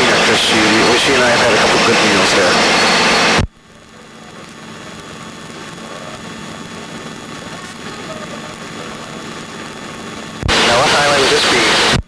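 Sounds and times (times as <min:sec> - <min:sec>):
light aircraft engine drone: 0:00.0 - 0:12.0.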